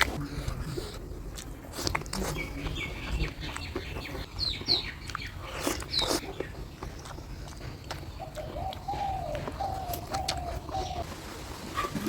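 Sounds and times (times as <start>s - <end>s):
birds chirping: 2.0s - 12.0s.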